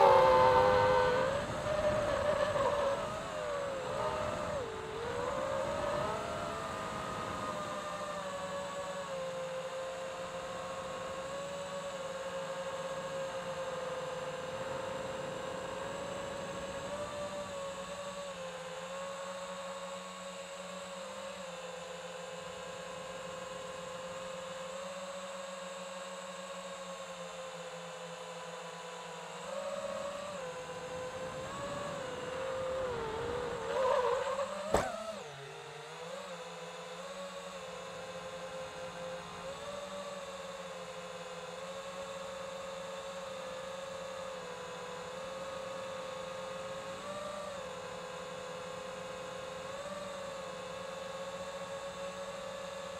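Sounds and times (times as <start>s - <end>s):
drone propellers whirring: 0.0s - 24.9s, 27.0s - 52.9s.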